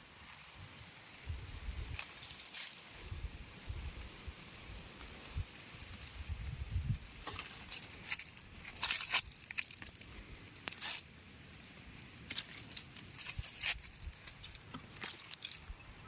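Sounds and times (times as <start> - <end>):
rustling and crackling: 1.7 - 11.2, 11.8 - 15.7.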